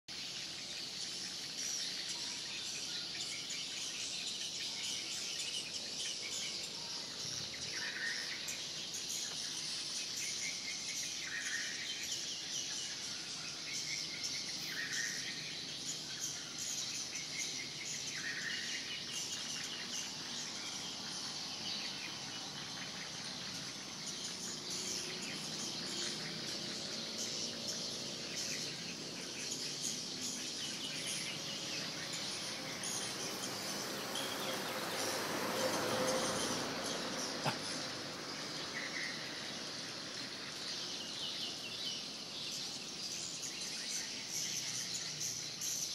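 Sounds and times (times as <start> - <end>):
birds chirping from speakers: 0.1 - 45.9
lower bird chirp: 0.1 - 45.9.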